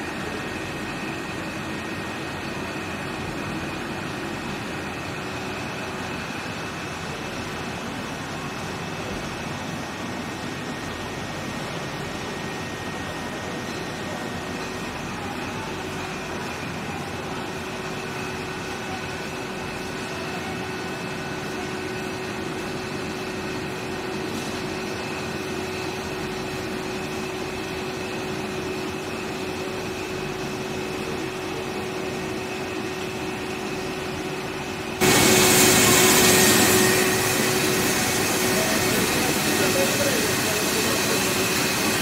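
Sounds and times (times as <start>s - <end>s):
conveyor machine hum: 0.0s - 42.0s
high machine whine: 0.0s - 42.0s.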